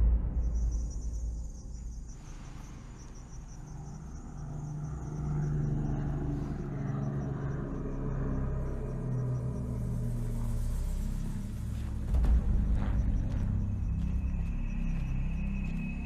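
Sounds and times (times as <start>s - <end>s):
crickets chirping: 0.0s - 16.0s
low held drone: 0.0s - 16.0s.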